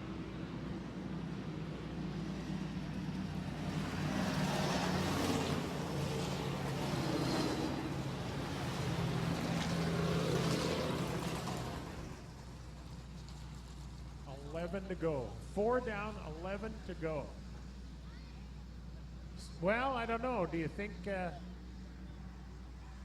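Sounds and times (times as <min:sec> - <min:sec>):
race truck engines passing: 0:00.0 - 0:23.0.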